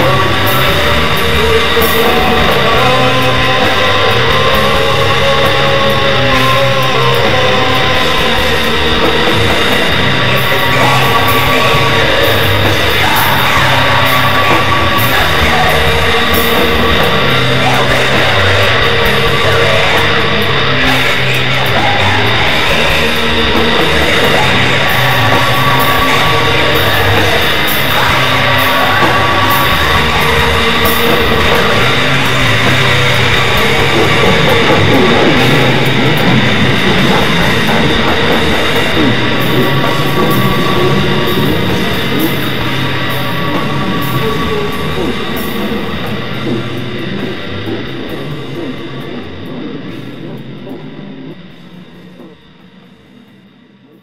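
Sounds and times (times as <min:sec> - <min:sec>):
distorted guitar: 0:00.0 - 0:54.0.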